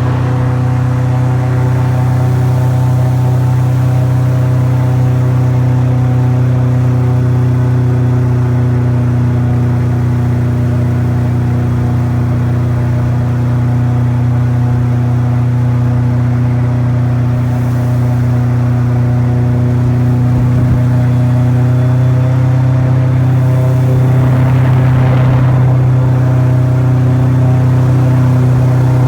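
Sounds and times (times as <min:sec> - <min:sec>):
airboat engine droning: 0:00.0 - 0:29.0.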